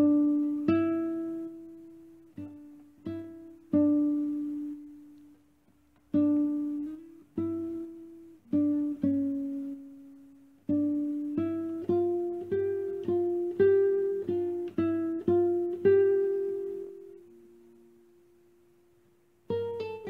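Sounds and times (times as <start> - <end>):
plucked guitar notes: 0.0 - 5.4, 6.0 - 18.3, 19.4 - 20.0.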